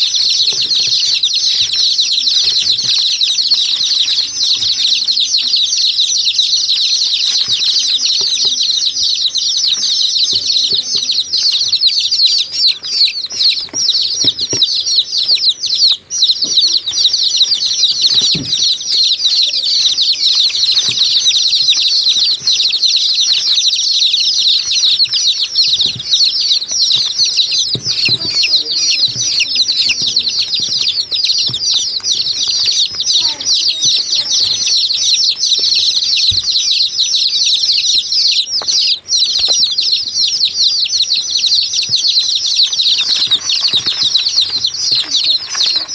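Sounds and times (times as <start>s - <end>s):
flock of small birds chirping: 0.0s - 45.9s.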